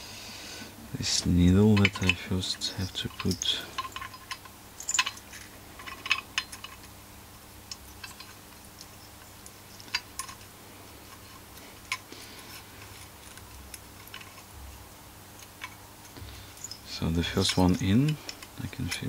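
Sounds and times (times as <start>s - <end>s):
low steady hum: 0.0s - 19.0s
metal parts clicking and tapping: 1.1s - 19.0s.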